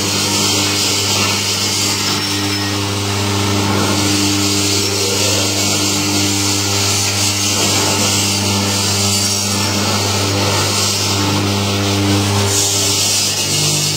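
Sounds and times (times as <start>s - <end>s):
electric motor hum: 0.0s - 13.9s
machine grinding and rubbing: 0.0s - 13.9s.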